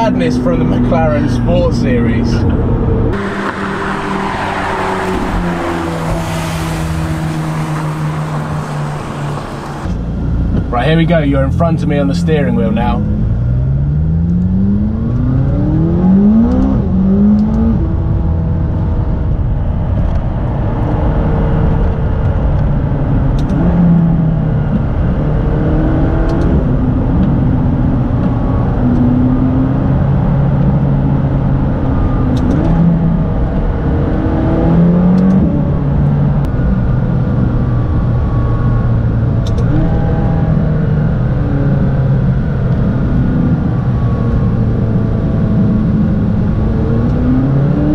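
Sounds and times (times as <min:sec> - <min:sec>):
car engine accelerating: 0:00.0 - 0:47.9
road noise hum: 0:00.0 - 0:47.9.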